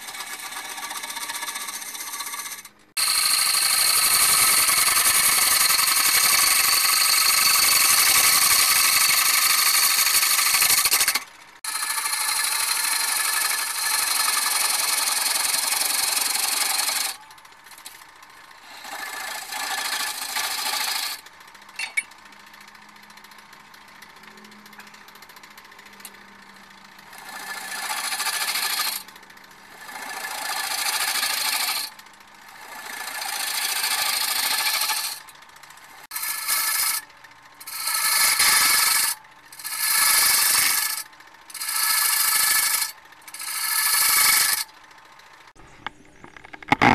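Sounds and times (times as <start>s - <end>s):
lathe tool scraping wood: 0.0s - 21.4s, 26.0s - 35.4s, 36.0s - 44.8s, 45.8s - 46.9s
lathe running hum: 0.0s - 46.4s.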